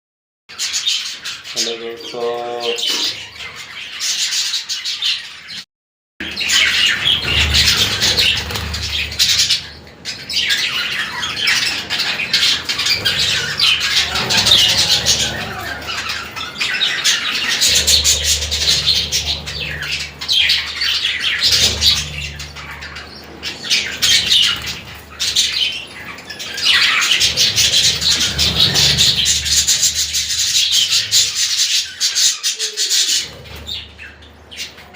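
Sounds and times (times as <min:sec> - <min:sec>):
budgerigars chattering: 0:00.5 - 0:05.6, 0:06.2 - 0:34.9.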